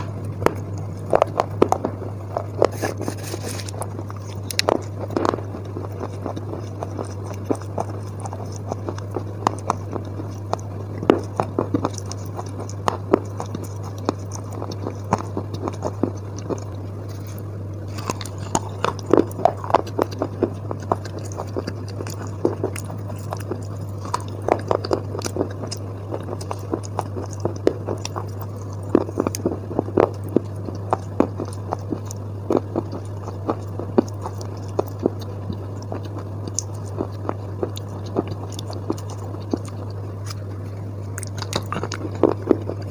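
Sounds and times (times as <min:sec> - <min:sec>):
low hum: 0:00.0 - 0:42.9
person chewing wet paste: 0:00.0 - 0:42.9.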